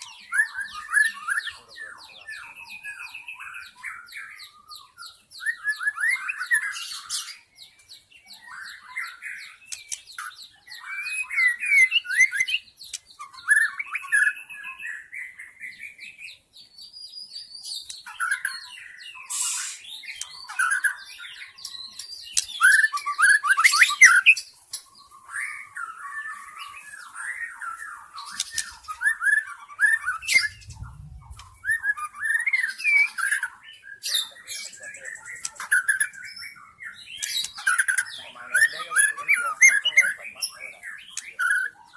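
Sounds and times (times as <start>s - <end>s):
bird singing: 0.0s - 41.9s.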